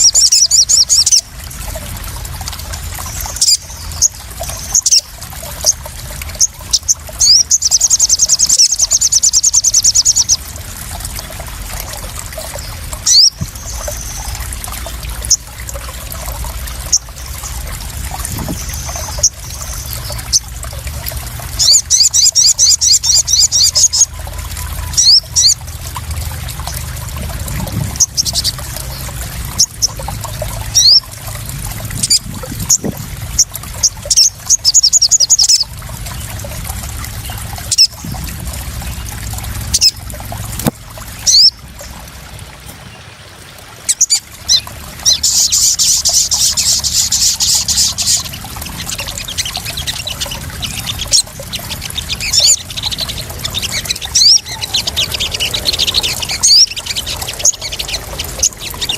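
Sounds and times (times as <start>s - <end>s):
bird chirping and trilling: 0.0s - 1.3s, 3.0s - 10.5s, 11.1s - 38.2s, 38.8s - 41.9s, 43.8s - 58.9s
water trickling and splashing: 0.0s - 58.9s.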